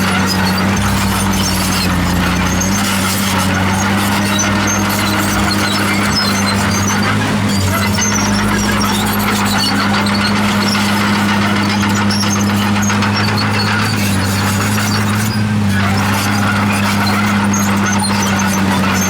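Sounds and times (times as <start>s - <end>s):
bulldozer diesel engine running: 0.0s - 19.0s
steel tracks squeaking and grinding: 0.0s - 19.0s.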